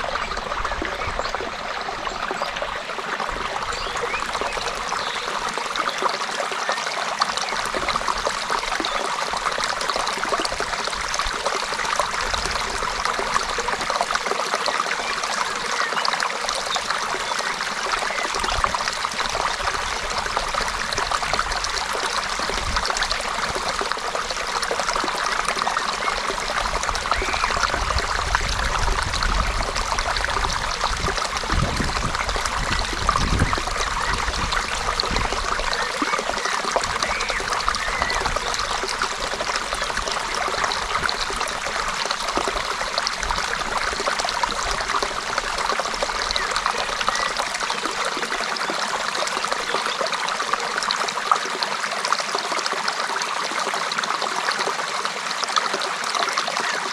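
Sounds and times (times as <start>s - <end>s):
stream flowing over rocks: 0.0s - 56.9s.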